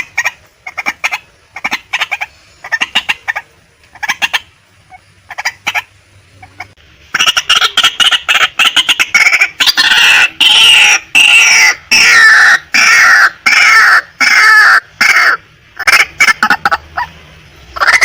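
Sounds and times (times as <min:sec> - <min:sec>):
waterhen harsh calls: 0:00.0 - 0:18.0.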